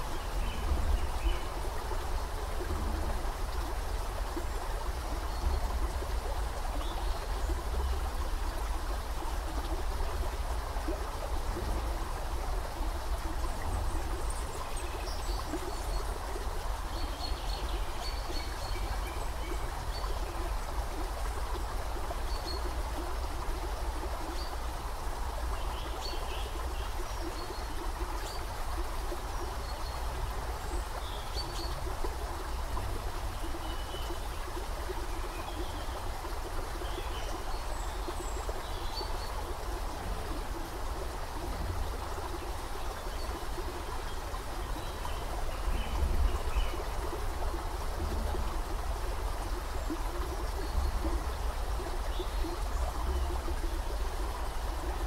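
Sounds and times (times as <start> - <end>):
creek water over rocks: 0.0 - 55.0.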